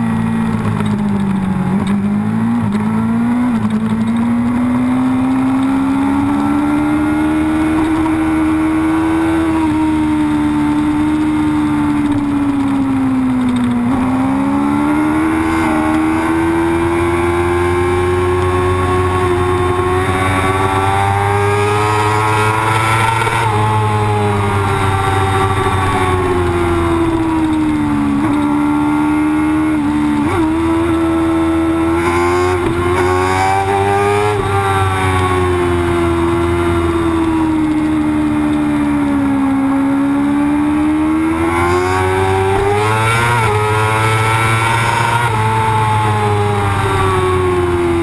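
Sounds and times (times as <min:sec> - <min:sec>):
motorcycle engine at high revs: 0:00.0 - 0:48.0.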